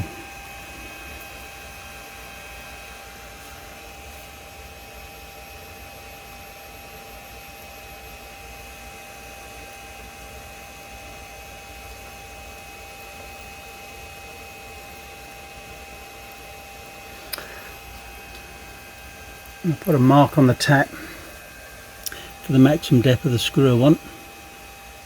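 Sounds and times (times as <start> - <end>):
milling machine running: 0.0 - 25.0.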